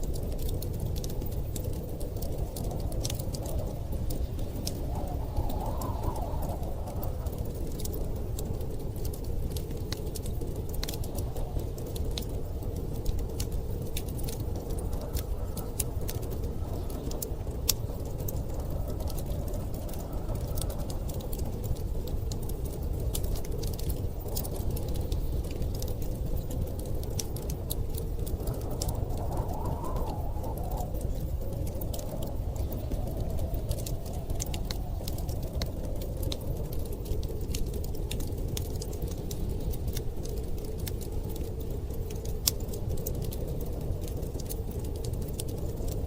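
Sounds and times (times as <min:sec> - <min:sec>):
wood fire crackling: 0:00.0 - 0:46.0
storm wind rushing: 0:00.1 - 0:46.0.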